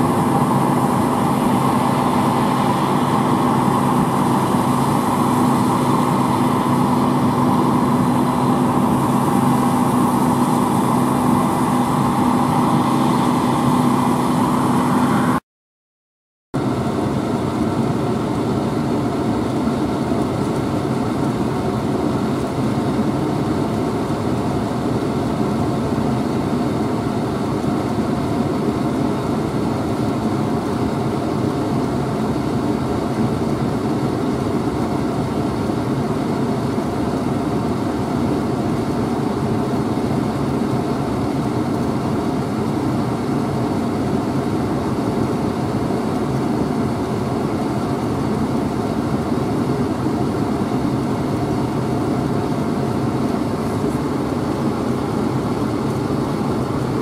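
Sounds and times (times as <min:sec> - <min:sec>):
combine harvester droning: 0:00.0 - 0:15.4, 0:16.6 - 0:57.0.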